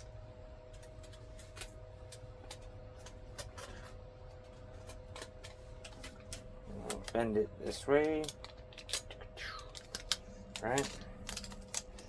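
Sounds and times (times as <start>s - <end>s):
faint steady hum: 0.0s - 12.0s
light clicks and crinkling: 0.7s - 12.0s.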